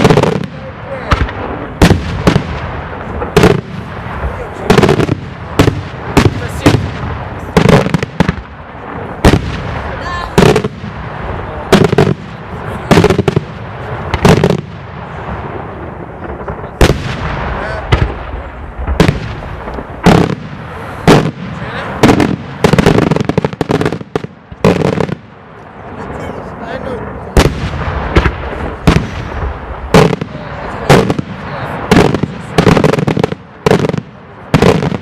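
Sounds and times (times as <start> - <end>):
fireworks bangs with echo: 0.0 - 25.9, 26.7 - 35.0.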